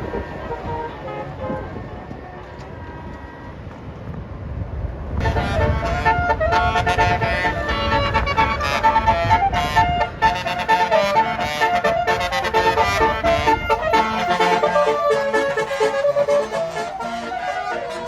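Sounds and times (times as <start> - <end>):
bus horn playing a tune: 0.0 - 2.0, 5.2 - 18.0
low engine rumble: 0.0 - 18.0.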